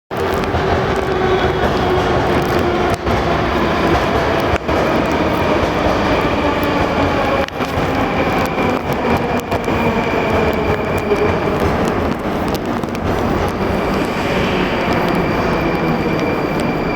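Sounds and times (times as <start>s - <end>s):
train rail rumble: 0.1s - 16.9s
train whining tones: 0.1s - 16.9s.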